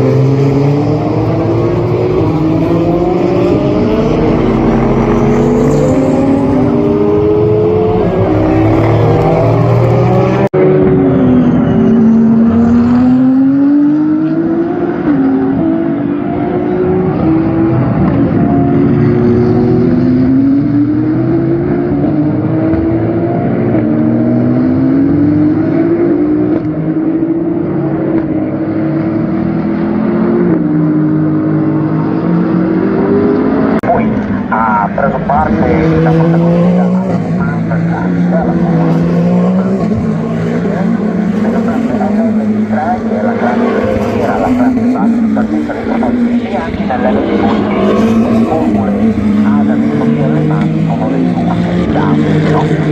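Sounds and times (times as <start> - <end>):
cars passing: 0.0 - 52.9
race car engines at high revs: 0.0 - 52.9.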